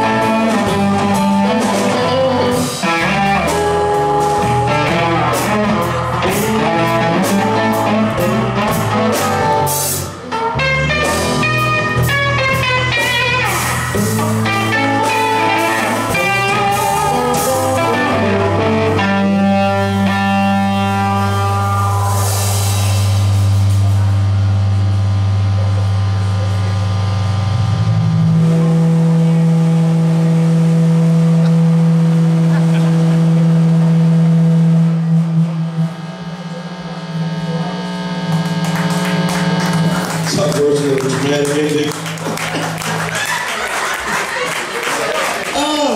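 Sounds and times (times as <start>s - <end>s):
blues-rock band playing: 0.0s - 45.5s.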